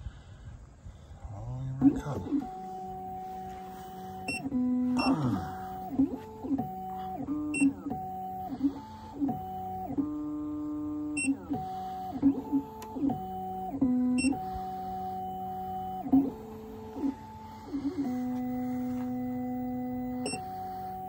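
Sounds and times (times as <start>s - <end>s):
stepper motors whining: 1.4s - 21.0s.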